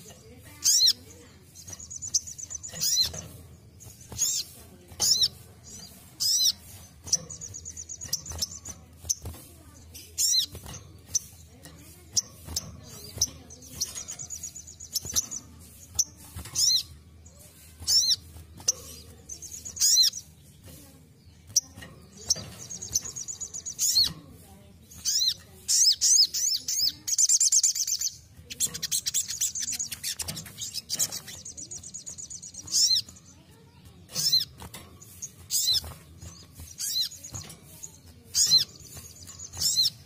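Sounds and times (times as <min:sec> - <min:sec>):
bird rapid trills: 0:00.0 - 0:40.0.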